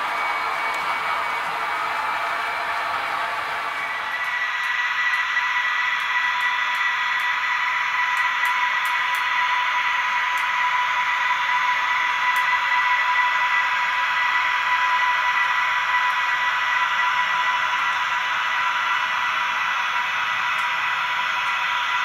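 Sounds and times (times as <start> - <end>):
model train running on track: 0.0 - 22.0.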